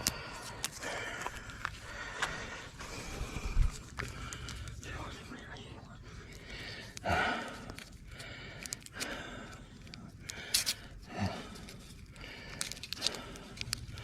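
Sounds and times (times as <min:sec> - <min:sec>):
man breathing heavily: 0:00.0 - 0:14.0.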